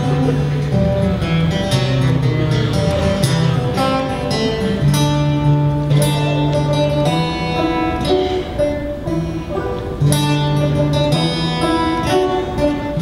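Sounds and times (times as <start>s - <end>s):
acoustic guitar and banjo duet: 0.0s - 13.0s.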